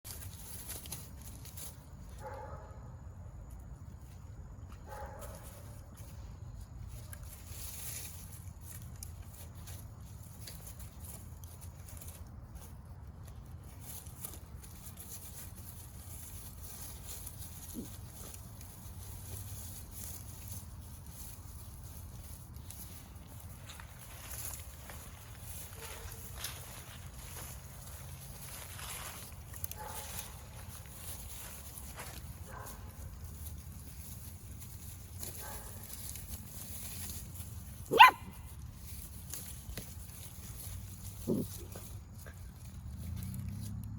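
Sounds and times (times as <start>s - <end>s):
rustling: 0.0s - 43.9s
steady low rumble: 5.7s - 43.9s.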